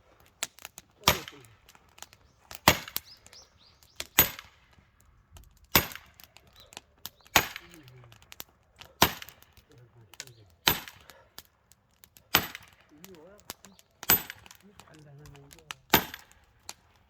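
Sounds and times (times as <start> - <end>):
metal tool striking firewood: 0.2 - 17.0.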